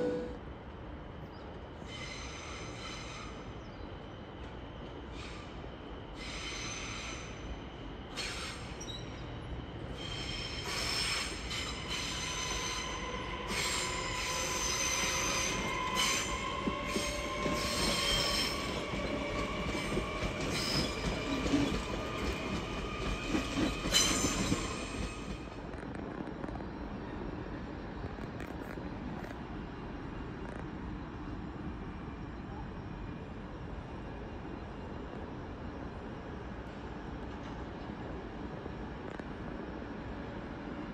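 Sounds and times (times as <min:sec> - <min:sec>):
train wheels squealing on rails: 0:01.1 - 0:40.9.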